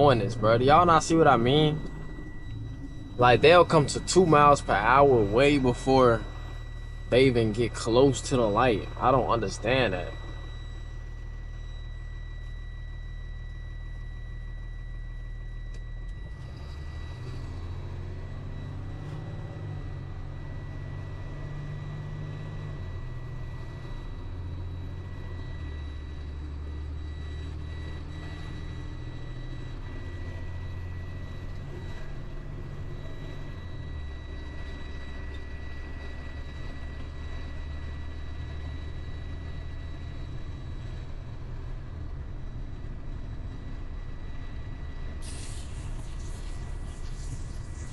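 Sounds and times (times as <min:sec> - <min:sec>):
faint high whine: 0:00.0 - 0:47.9
truck engine rumbling: 0:00.0 - 0:47.9.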